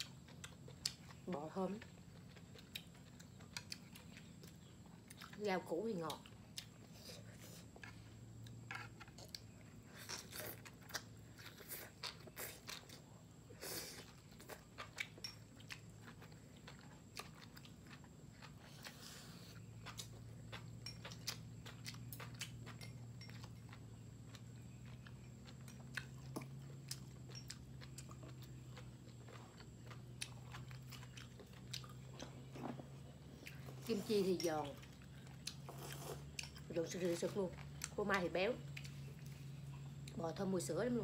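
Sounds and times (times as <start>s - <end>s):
chewing and crunching: 0.0s - 41.0s
low steady hum: 0.0s - 41.0s.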